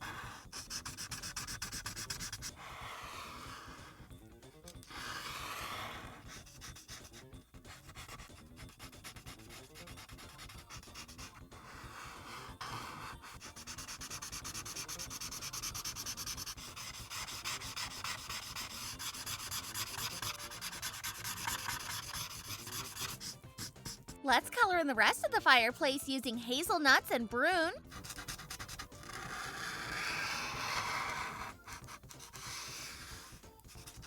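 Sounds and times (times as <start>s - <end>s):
marker rubbing on paper: 0.0s - 4.0s, 4.8s - 24.4s, 27.9s - 34.0s.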